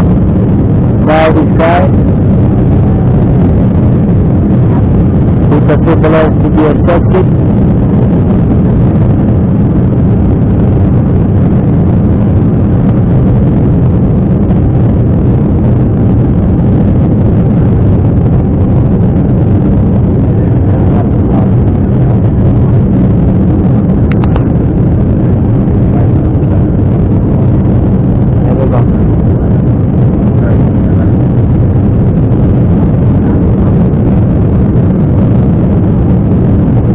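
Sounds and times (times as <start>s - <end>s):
jet engine cabin roar: 0.0s - 36.9s.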